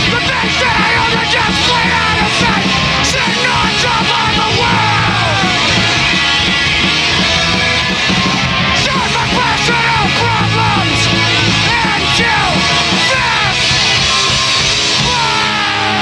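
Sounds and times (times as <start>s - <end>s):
shouted vocals: 0.0s - 6.1s, 8.3s - 16.0s
distorted electric guitars and bass: 0.0s - 16.0s
drums and cymbals: 0.0s - 16.0s.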